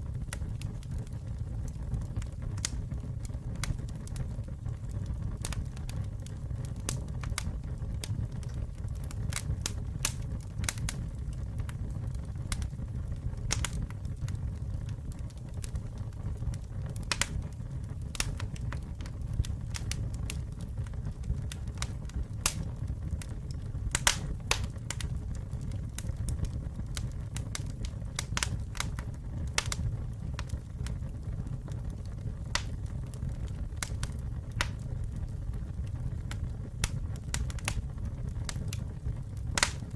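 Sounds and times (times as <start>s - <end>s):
campfire rumble: 0.0s - 39.9s
wood crackling and popping: 0.0s - 39.9s.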